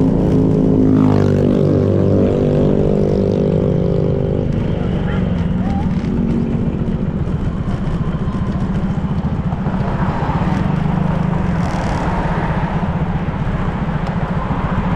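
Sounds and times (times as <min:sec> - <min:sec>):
road noise: 0:00.0 - 0:14.9
scooter engine running: 0:00.0 - 0:14.9.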